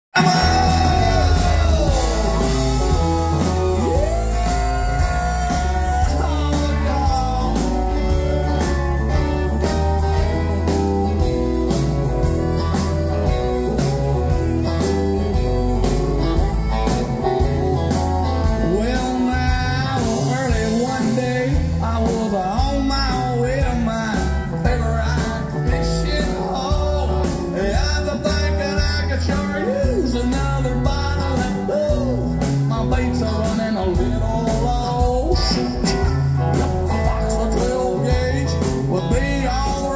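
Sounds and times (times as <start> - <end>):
man singing: 0.1 - 11.2, 17.8 - 39.9
live country band: 0.1 - 39.9.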